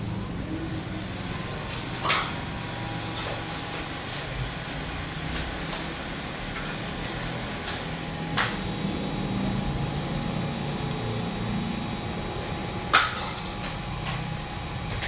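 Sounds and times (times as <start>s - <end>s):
machine hum with whine: 0.0s - 15.0s.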